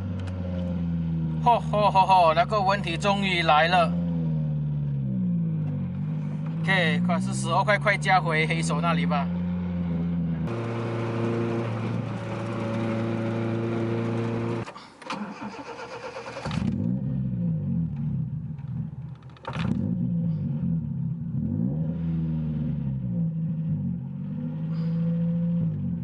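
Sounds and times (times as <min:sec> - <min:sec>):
car engine running: 0:00.0 - 0:14.8, 0:16.3 - 0:26.0.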